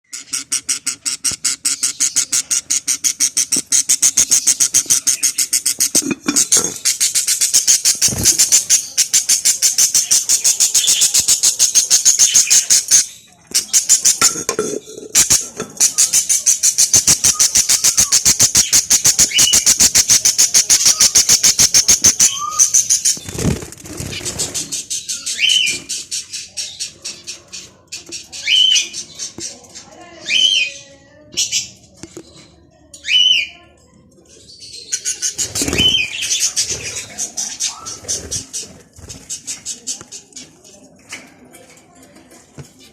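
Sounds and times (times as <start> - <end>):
budgerigar chicks begging: 0.1 - 14.2, 15.1 - 31.8, 34.6 - 40.6.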